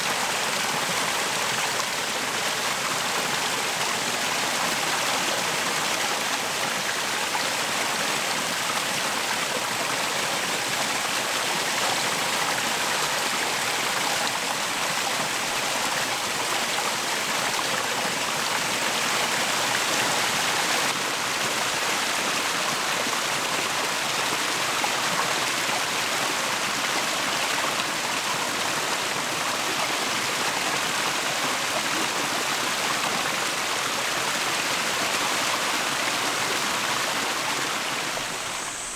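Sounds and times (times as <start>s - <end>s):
waterfall pouring into pool: 0.0s - 38.9s.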